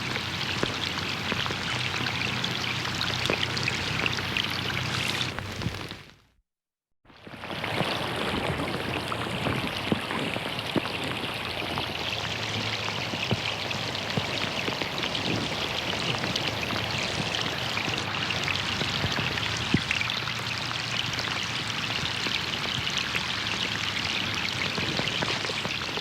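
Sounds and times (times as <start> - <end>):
rain falling on a pond: 0.0 - 6.2, 7.1 - 26.0.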